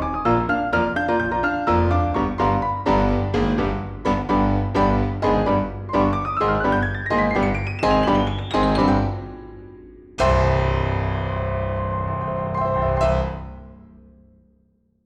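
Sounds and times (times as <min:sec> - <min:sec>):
piano chord ringing: 0:00.0 - 0:14.0.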